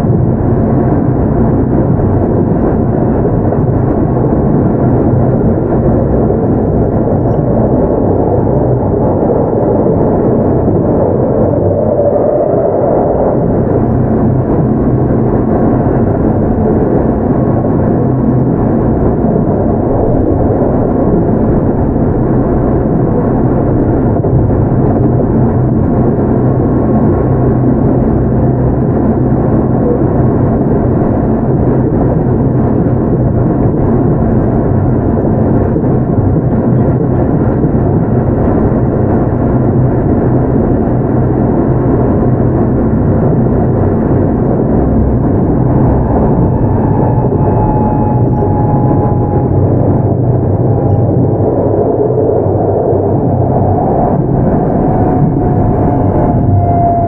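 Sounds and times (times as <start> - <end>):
low train hum: 0.0 - 57.0.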